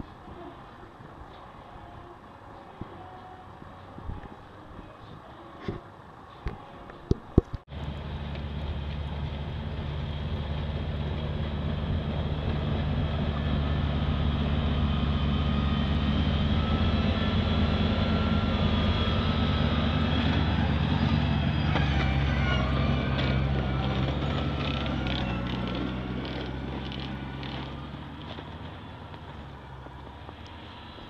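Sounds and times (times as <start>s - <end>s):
large vehicle engine droning: 0.0s - 31.0s.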